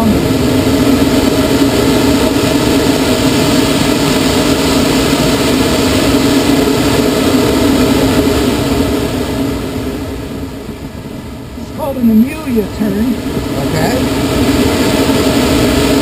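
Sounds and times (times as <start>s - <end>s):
air rushing over glider: 0.1s - 16.0s.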